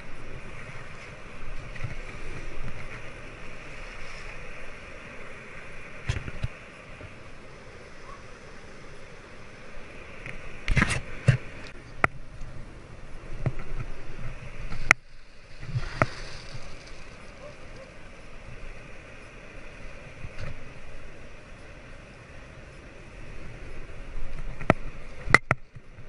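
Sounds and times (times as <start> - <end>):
shallow surf: 0.0 - 26.0
wind hiss: 0.0 - 26.0.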